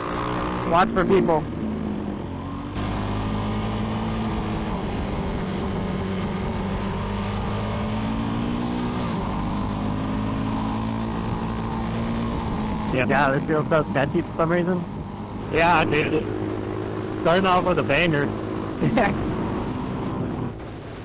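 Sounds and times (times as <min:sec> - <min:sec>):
dirt bike engine running: 0:00.0 - 0:08.2, 0:09.1 - 0:21.0.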